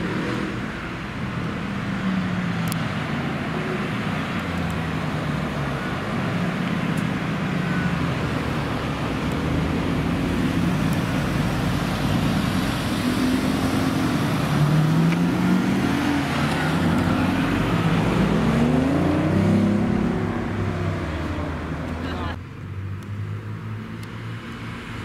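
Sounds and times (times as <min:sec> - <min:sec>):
sports car engines accelerating: 0:00.0 - 0:25.0.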